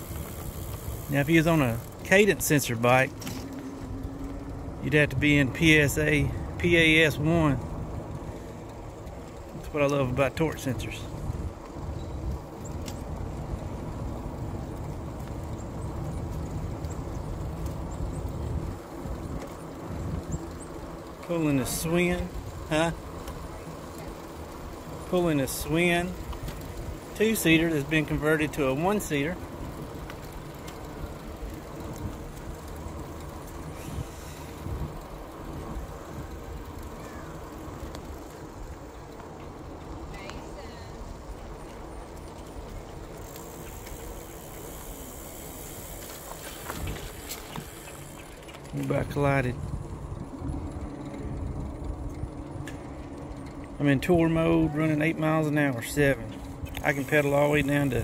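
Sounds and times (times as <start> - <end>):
e-bike rolling on road: 0.0 - 58.0.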